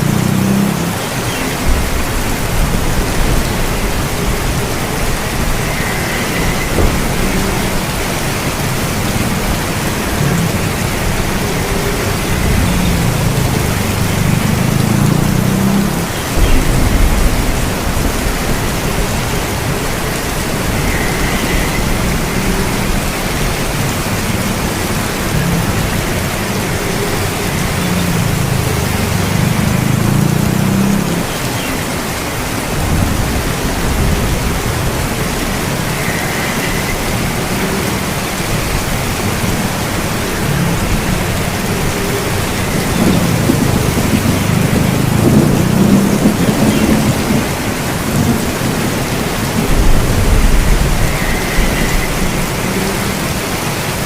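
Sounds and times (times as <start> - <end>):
heavy rain: 0.0 - 54.0
low rolling thunder: 1.5 - 31.3, 32.7 - 52.9.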